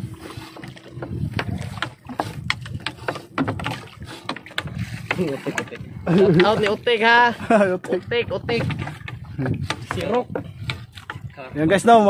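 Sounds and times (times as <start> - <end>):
sharp knocks and clatter on boat: 0.0 - 12.0.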